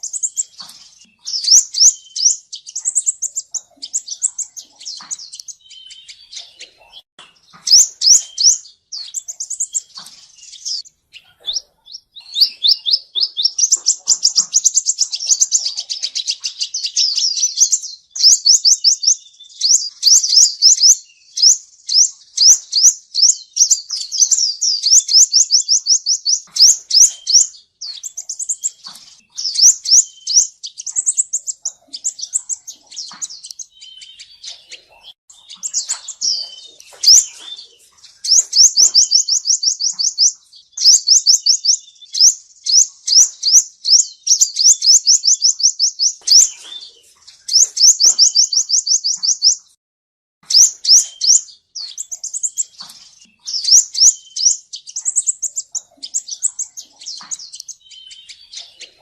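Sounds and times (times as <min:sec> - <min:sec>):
bird singing rapid trills: 0:00.0 - 0:49.7, 0:50.4 - 0:59.0.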